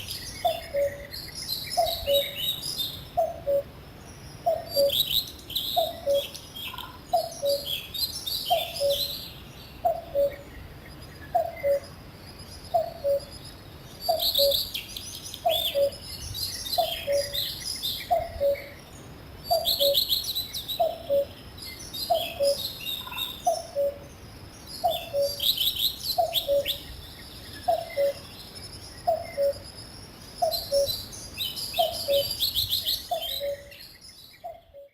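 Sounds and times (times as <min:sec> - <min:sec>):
cuckoo calling: 0:00.0 - 0:03.8, 0:04.4 - 0:10.6, 0:11.2 - 0:12.0, 0:12.7 - 0:13.4, 0:14.0 - 0:24.2, 0:24.8 - 0:28.4, 0:29.0 - 0:29.7, 0:30.4 - 0:34.9
songbirds twittering: 0:00.0 - 0:34.9.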